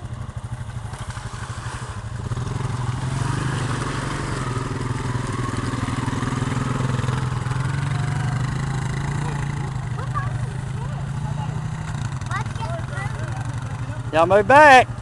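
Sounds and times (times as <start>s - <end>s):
atv engine running under load: 0.0s - 15.0s.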